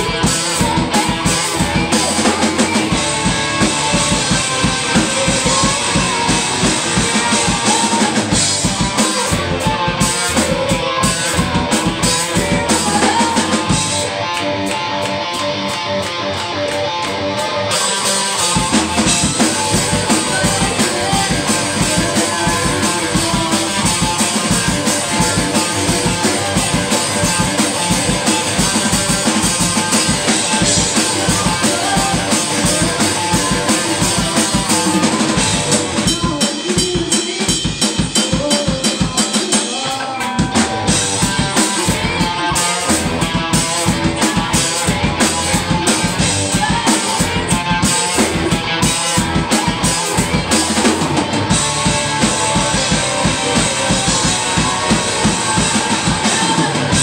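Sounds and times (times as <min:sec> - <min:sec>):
driving drums: 0:00.0 - 0:57.0
rock band playing: 0:00.0 - 0:57.0.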